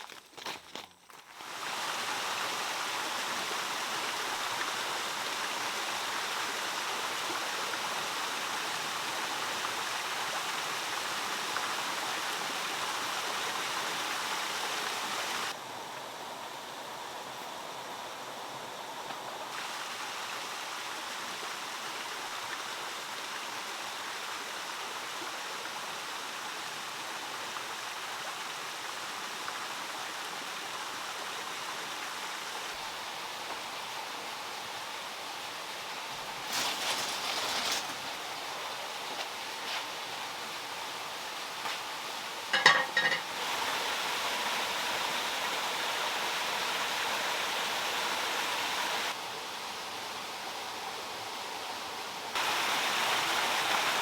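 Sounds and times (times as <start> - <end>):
water rushing down waterfall: 1.4 - 54.0.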